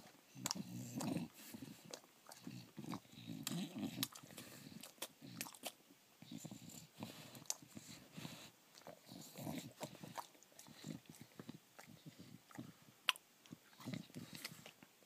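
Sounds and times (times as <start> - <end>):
dog sniffing: 0.0 - 12.8.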